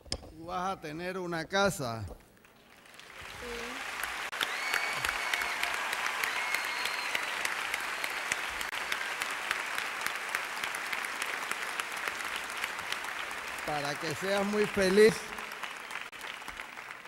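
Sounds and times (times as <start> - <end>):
audience applauding: 2.5 - 17.0.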